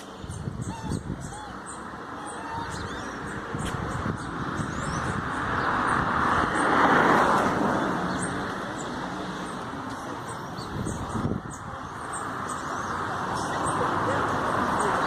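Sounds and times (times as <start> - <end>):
birds chirping: 0.0 - 15.0
vehicle passing by: 1.0 - 15.0.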